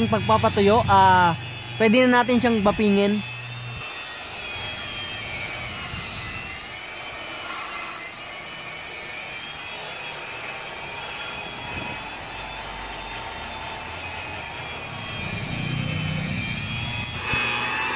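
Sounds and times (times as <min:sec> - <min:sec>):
rotary buffer motor whine: 0:00.0 - 0:17.9.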